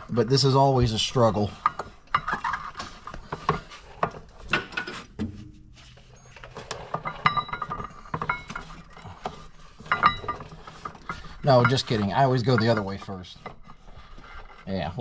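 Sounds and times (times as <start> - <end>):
belt and tool rattling on metal: 0.0 - 5.2, 5.8 - 15.0.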